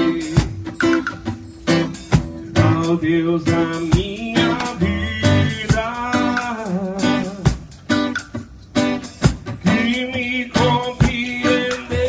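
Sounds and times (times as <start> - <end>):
guitar: 0.0 - 12.0
steady drum beat: 0.0 - 12.0.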